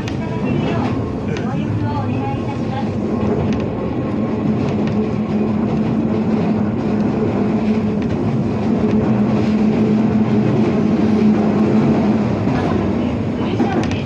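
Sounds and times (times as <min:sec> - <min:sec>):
electric train wheels on rails: 0:00.0 - 0:14.0.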